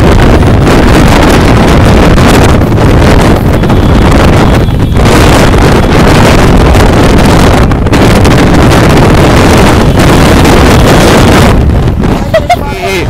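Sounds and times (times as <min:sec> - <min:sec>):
road noise: 0:00.0 - 0:13.0
wind noise on microphone: 0:00.0 - 0:13.0.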